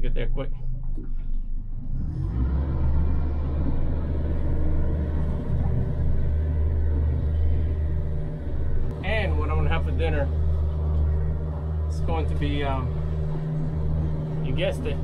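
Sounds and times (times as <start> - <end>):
outboard engine drone: 0.0 - 15.0.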